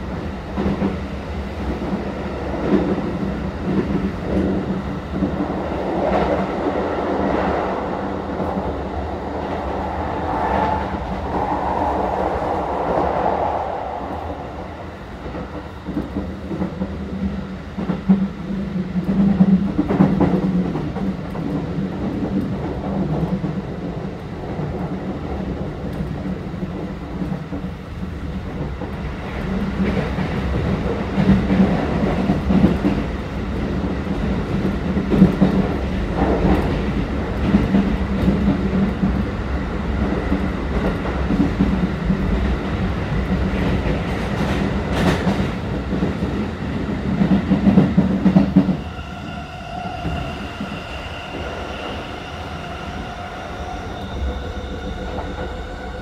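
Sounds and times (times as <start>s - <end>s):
multi-pitch train whine: 0.0s - 56.0s
train running rumble: 0.0s - 56.0s.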